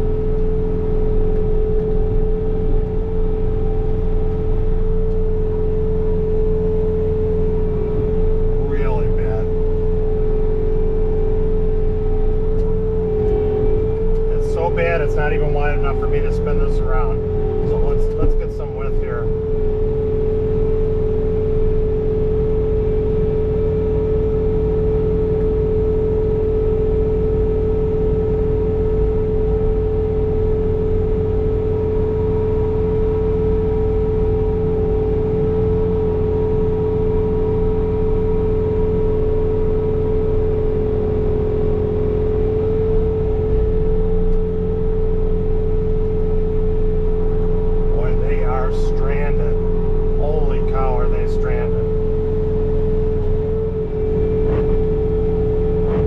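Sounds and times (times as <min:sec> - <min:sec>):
diesel engine drone: 0:00.0 - 0:56.0
snow blower whine: 0:00.0 - 0:56.0.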